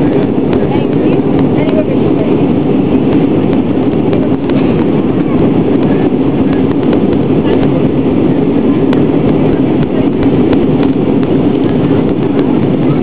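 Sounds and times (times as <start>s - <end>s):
jet engine and airflow in cabin: 0.0s - 13.0s.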